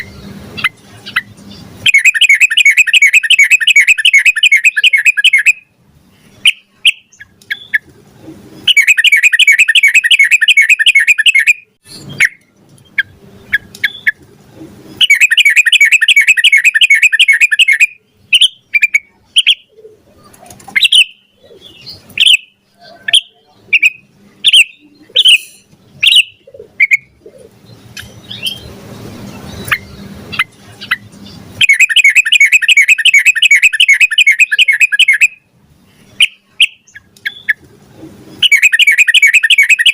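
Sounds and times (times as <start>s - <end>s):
bird chirps: 0.0s - 7.9s, 8.5s - 14.2s, 14.8s - 37.6s, 38.3s - 39.9s
bird warbling song: 0.0s - 7.9s, 8.5s - 14.2s, 14.8s - 39.9s.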